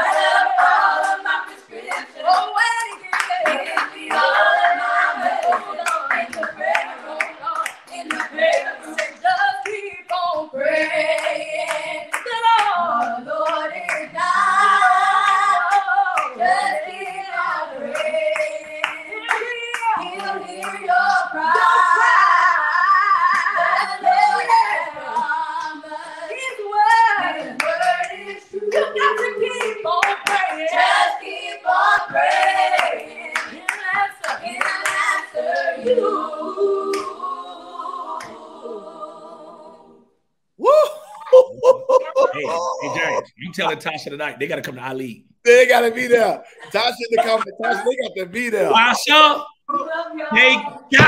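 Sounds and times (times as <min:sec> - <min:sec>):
young voices singing gospel harmony: 0:00.0 - 0:43.8, 0:45.7 - 0:51.0.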